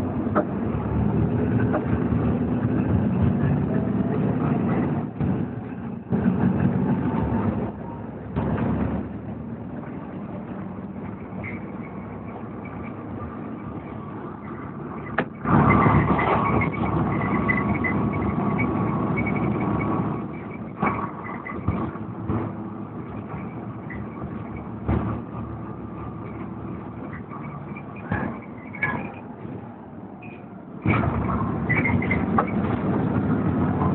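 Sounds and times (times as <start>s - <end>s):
bus engine and road noise: 0.0s - 33.9s.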